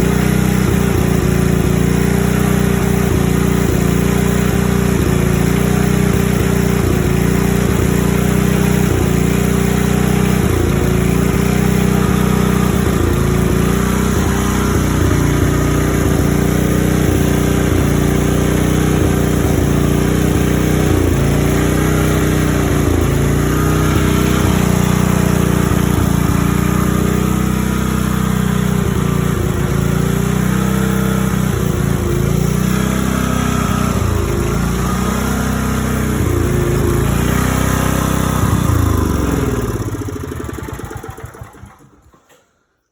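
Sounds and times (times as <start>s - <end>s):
generator engine running: 0.0s - 42.6s.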